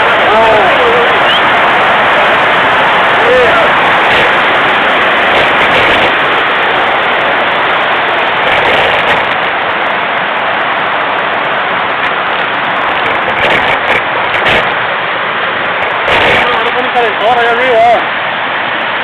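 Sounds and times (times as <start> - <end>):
wind rushing: 0.0 - 18.9
bike rattling: 2.6 - 18.0.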